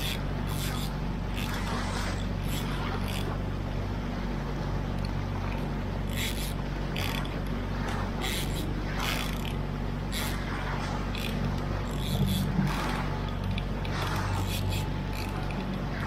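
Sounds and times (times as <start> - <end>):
water slapping against hull: 0.0 - 3.5, 5.2 - 16.0
outboard motor running: 0.0 - 16.0.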